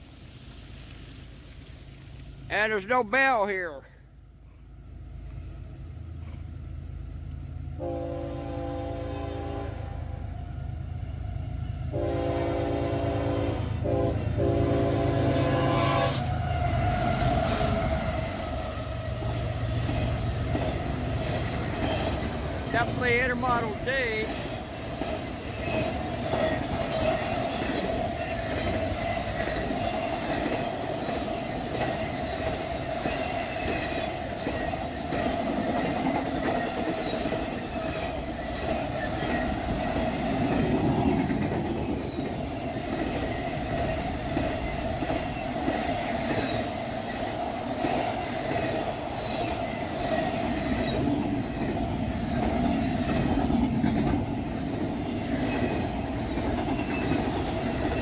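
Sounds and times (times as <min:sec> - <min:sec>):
train wheels rumbling on rails: 0:04.7 - 0:58.0.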